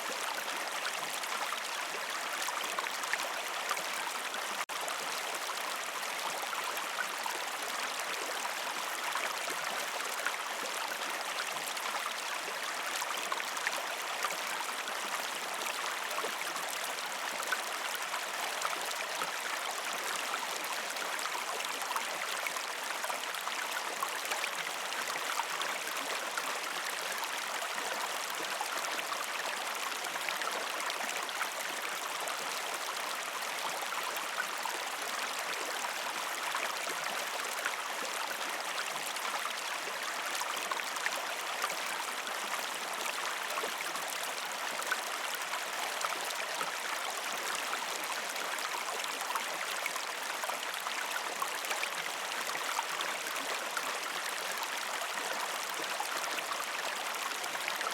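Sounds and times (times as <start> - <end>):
stream flowing over rocks: 0.0 - 57.9.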